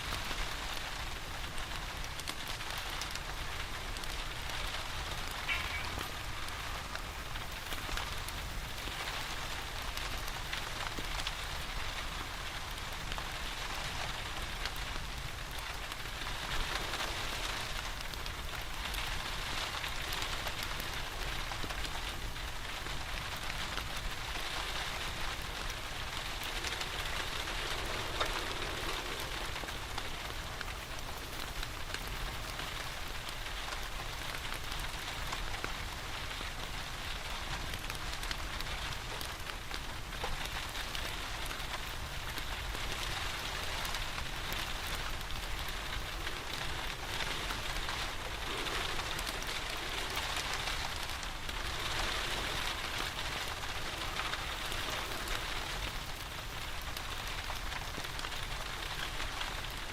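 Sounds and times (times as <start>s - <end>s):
rain pattering: 0.0s - 59.9s
wood fire crackling: 0.0s - 59.9s.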